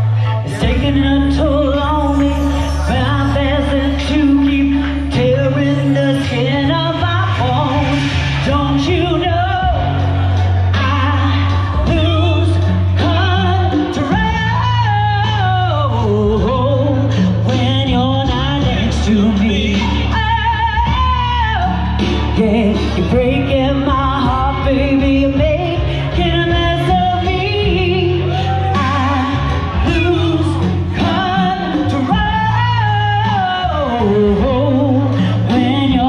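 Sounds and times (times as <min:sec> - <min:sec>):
amplified music with bass line: 0:00.0 - 0:36.0
woman singing into a microphone: 0:00.0 - 0:36.0.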